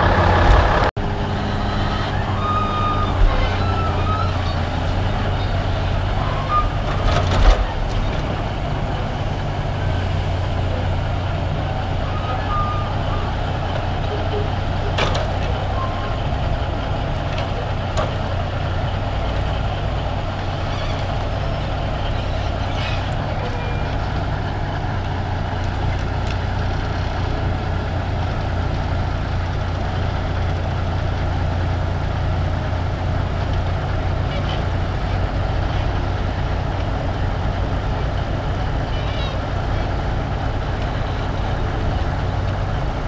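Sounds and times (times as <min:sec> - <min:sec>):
diesel engines droning: 0:00.0 - 0:43.0.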